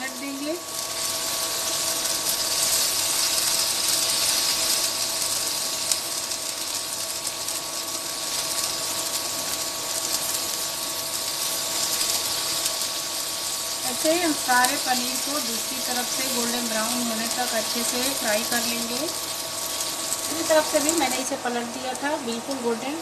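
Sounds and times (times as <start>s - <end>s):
cheese sizzling in hot oil: 0.0s - 23.0s
faint steady whine: 0.0s - 23.0s
spatula turning food in pan: 0.0s - 23.0s.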